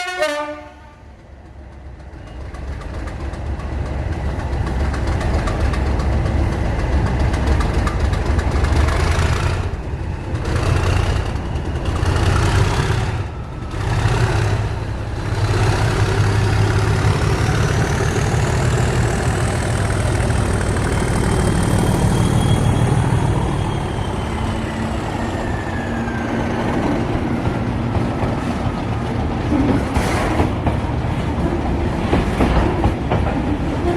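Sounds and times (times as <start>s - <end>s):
diesel locomotive engines running: 0.0s - 33.9s.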